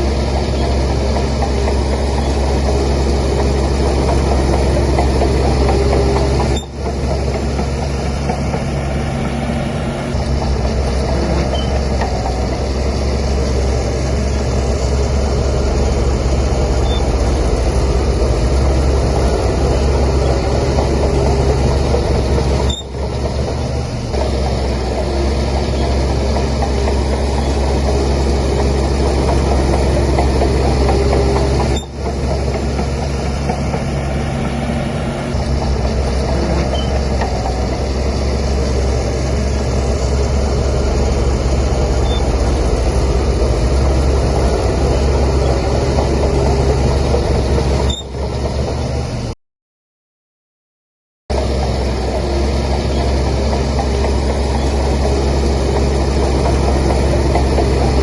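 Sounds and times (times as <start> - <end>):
bulldozer diesel engine running: 0.0 - 49.4, 51.3 - 58.0.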